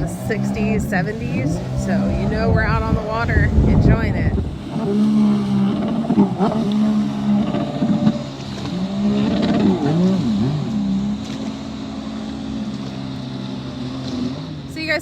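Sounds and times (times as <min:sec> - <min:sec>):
watercraft engine running: 0:00.0 - 0:15.0.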